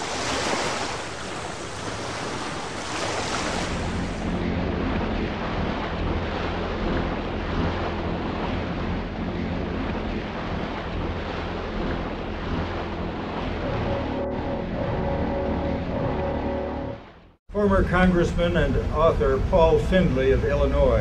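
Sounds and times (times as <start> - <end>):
sea waves: 0.0 - 21.0
higher steady hum: 3.6 - 21.0
low hum: 3.6 - 21.0.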